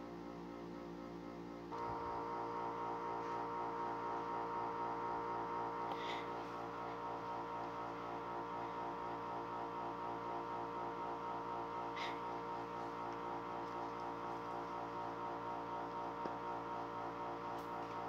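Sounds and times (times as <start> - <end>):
steady hum of held tones: 0.0 - 18.0.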